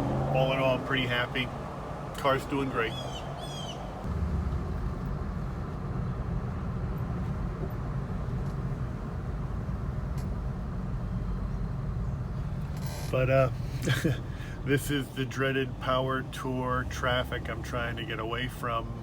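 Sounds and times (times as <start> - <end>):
car engine rumble from cabin: 0.0 - 19.0
road noise: 0.0 - 19.0.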